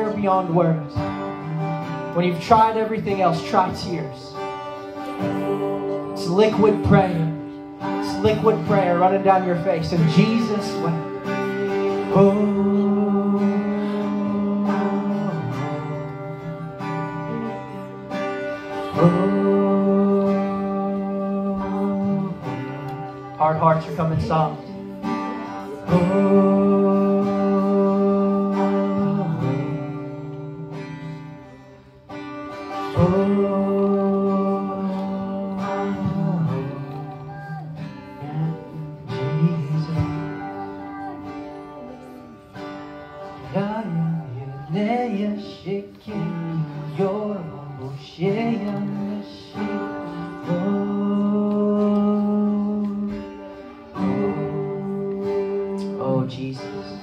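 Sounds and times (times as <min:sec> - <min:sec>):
soft worship music: 0:00.0 - 0:57.0.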